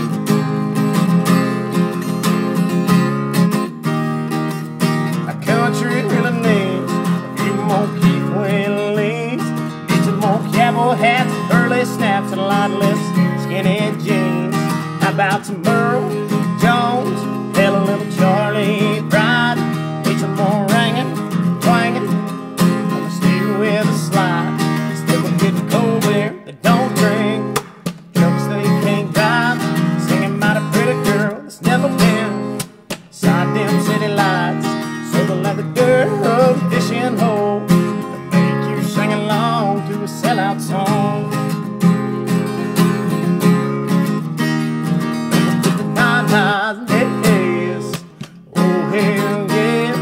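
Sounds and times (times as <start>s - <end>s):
strummed acoustic guitar: 0.0s - 50.0s
man singing: 5.1s - 41.6s, 45.4s - 50.0s.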